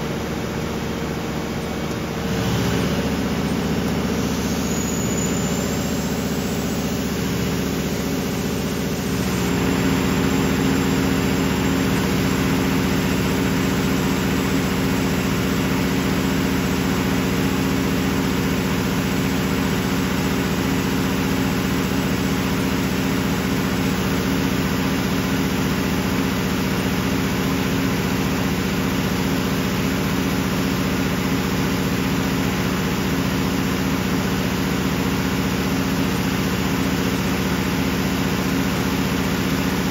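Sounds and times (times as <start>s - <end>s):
diesel generator droning: 0.0s - 39.9s.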